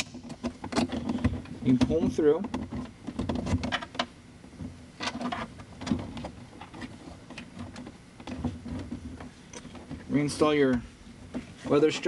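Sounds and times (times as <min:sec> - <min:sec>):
wires and plastic rustling and scraping: 0:00.0 - 0:12.0.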